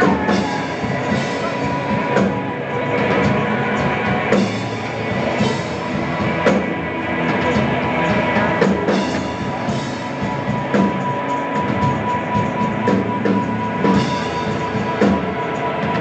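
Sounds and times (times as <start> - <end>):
drum kit: 0.0 - 16.0
electric guitar: 0.0 - 16.0
steady high tone: 0.0 - 16.0.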